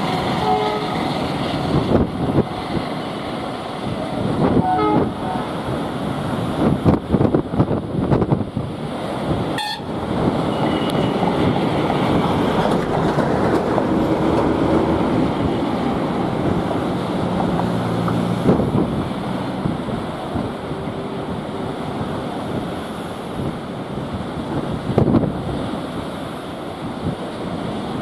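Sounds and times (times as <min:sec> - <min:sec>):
train rumbling on rails: 0:00.0 - 0:28.0
wind on microphone: 0:00.0 - 0:28.0.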